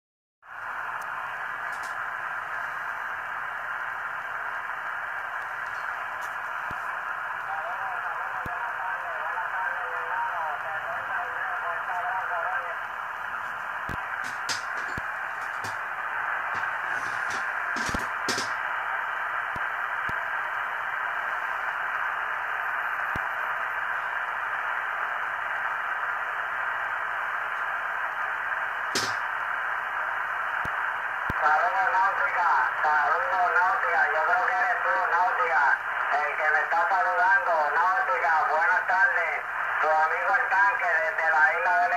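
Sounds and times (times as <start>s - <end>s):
radio receiver static hiss: 0.5s - 41.9s.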